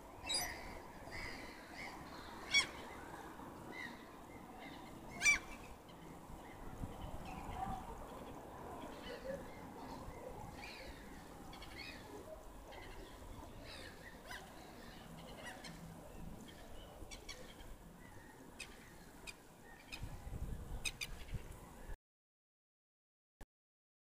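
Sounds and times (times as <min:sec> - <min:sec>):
birds calling: 0:00.2 - 0:06.7, 0:08.2 - 0:22.0.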